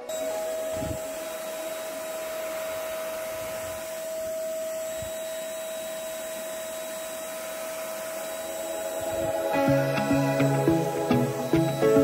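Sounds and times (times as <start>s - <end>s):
handheld vacuum cleaner running: 0.0s - 12.0s.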